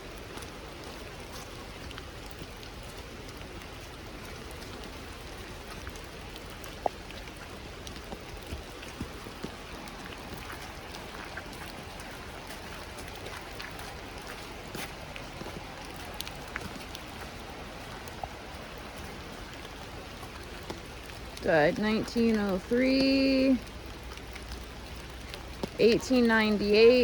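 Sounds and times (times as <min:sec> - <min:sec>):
raindrops tapping close by: 0:00.0 - 0:27.0
steady rain falling: 0:00.0 - 0:27.0.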